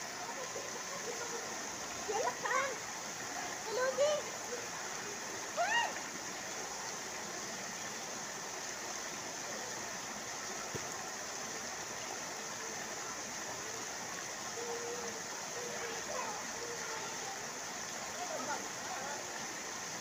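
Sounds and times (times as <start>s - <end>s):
water pouring and splashing into pool: 0.0s - 20.0s.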